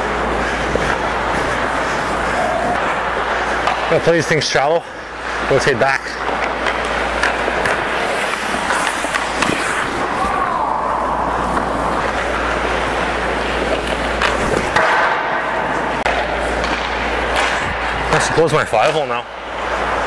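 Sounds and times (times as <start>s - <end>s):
skate blades scraping ice: 0.0s - 20.0s.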